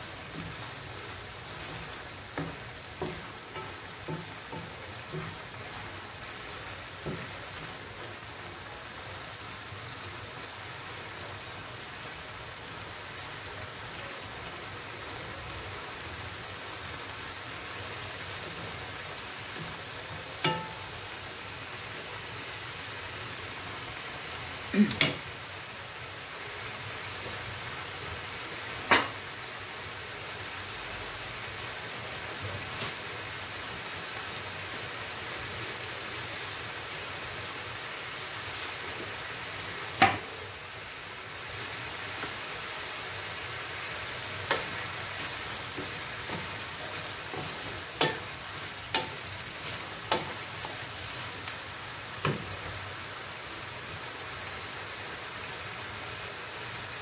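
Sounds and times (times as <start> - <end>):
food simmering in a frying pan: 0.0 - 57.0.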